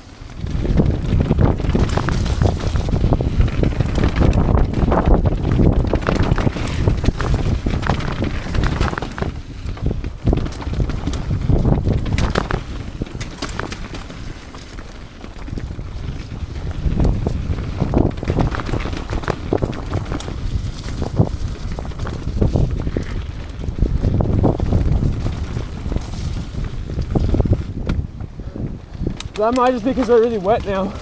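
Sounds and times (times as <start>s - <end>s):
bike rattles and knocks: 0.0s - 31.0s
bike tyres rumbling: 0.0s - 31.0s
wind buffeting microphone: 0.0s - 31.0s.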